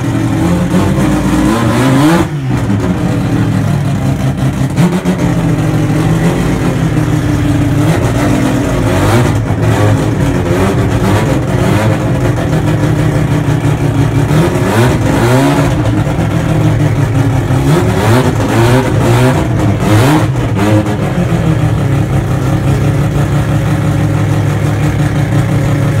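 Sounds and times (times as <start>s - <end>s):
rotary engine revving: 0.0s - 26.0s.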